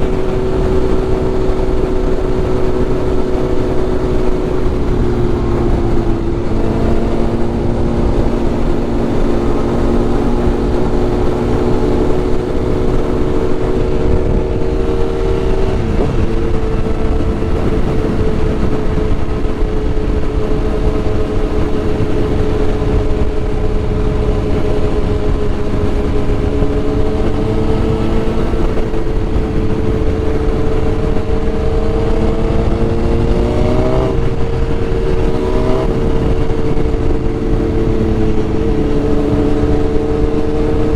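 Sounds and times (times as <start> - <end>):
heavy wind noise: 0.0 - 40.9
motorcycle engine cruising: 0.0 - 40.9.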